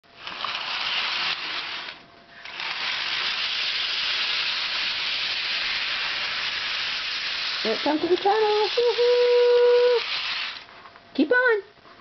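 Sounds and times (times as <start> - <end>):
toy train whirring on track: 0.2 - 10.7.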